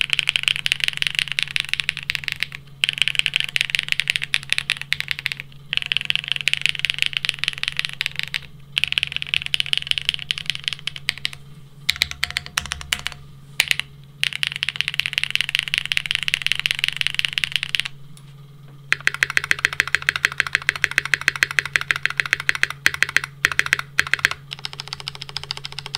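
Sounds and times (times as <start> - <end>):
mechanical keyboard typing: 0.0 - 17.9, 18.9 - 25.9.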